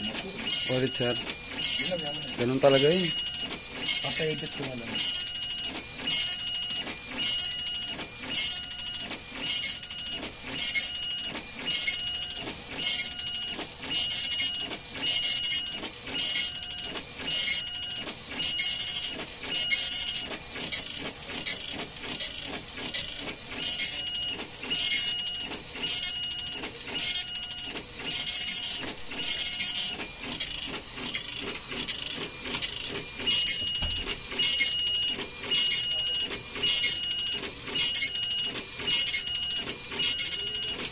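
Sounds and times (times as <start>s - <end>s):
dot matrix printer buzzing: 0.0s - 40.9s
printer whine: 0.0s - 40.9s.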